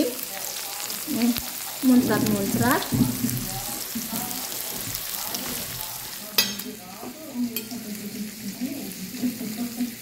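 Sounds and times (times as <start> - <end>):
patties sizzling in hot oil: 0.0 - 10.0.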